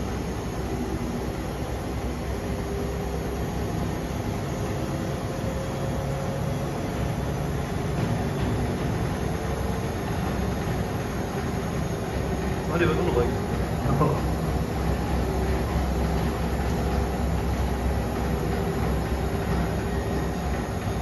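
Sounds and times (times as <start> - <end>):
washing machine humming and rumbling: 0.0 - 21.0.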